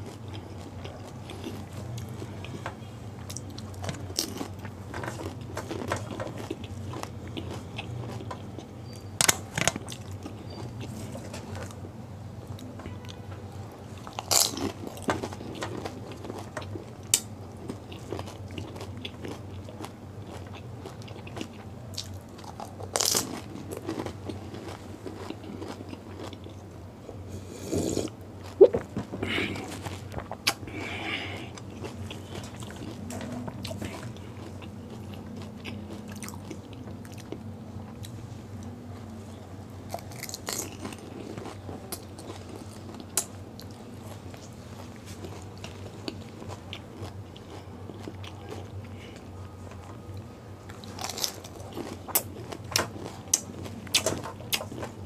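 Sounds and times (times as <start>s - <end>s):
person chewing crunchy food: 0.0s - 13.2s, 13.9s - 55.0s.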